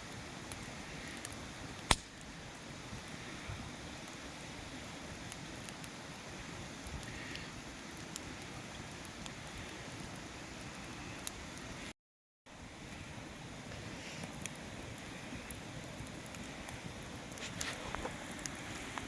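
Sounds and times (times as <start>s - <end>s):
wood fire crackling: 0.0s - 11.9s, 12.5s - 19.0s.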